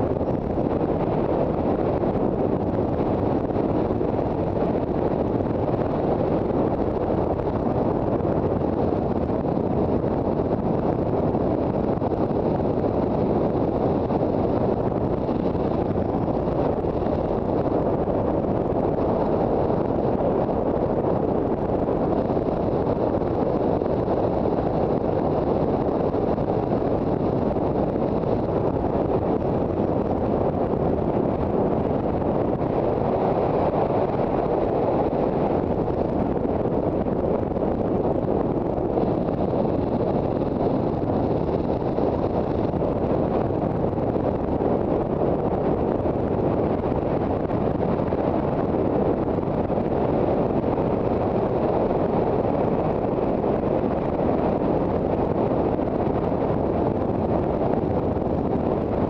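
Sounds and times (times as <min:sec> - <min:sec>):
motorcycle road noise: 0:00.0 - 0:59.0
wind noise on microphone: 0:00.0 - 0:59.0.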